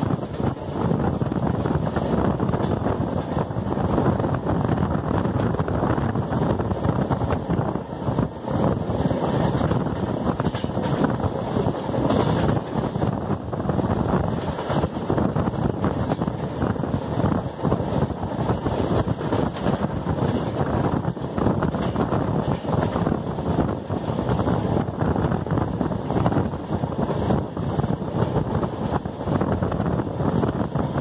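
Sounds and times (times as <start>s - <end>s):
train rumbling on track: 0.0s - 31.0s
wind buffeting microphone: 0.0s - 31.0s.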